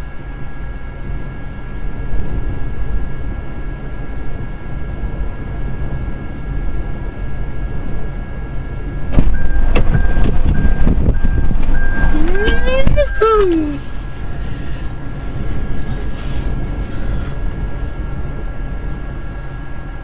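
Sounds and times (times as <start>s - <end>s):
faint steady whine: 0.0s - 20.0s
low rumble of wind: 0.0s - 20.0s
vehicle rumble: 0.0s - 20.0s.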